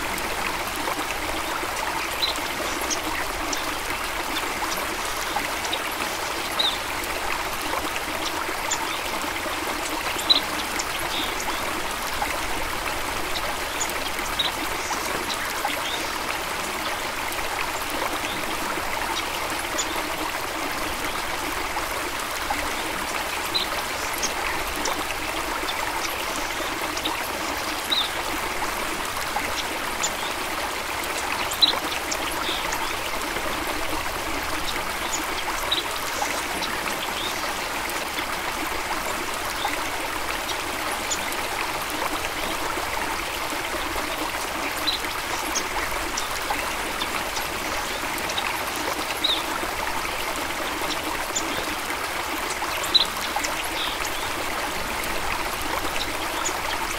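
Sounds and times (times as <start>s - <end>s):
stream running over stones: 0.0s - 56.9s.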